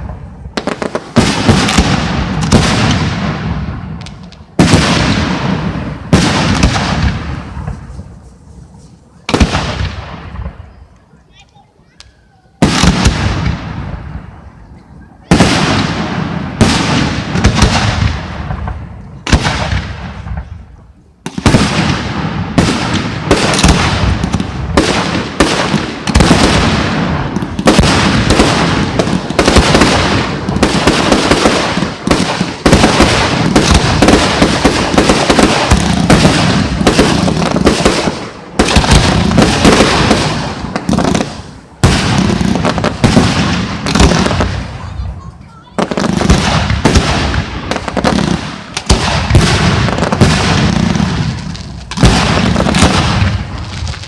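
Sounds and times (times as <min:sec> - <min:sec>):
fireworks bursting with bangs: 0:00.0 - 0:54.0.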